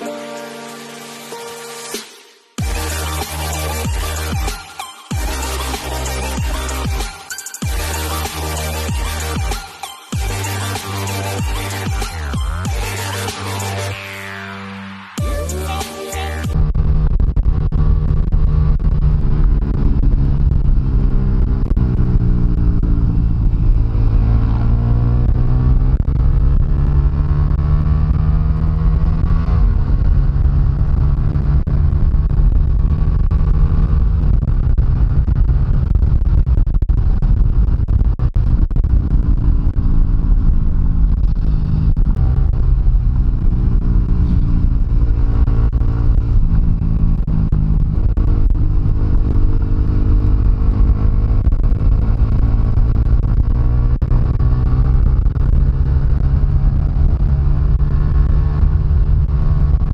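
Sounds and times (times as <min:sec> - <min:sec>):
motorcycle engine accelerating: 0:02.6 - 0:59.9.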